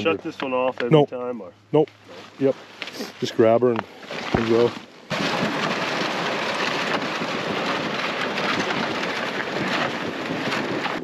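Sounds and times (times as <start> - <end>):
sled scraping over ice: 2.1 - 11.0.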